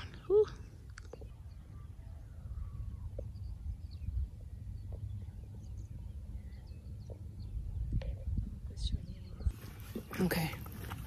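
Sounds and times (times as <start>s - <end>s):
wind rumbling on microphone: 1.1s - 11.0s.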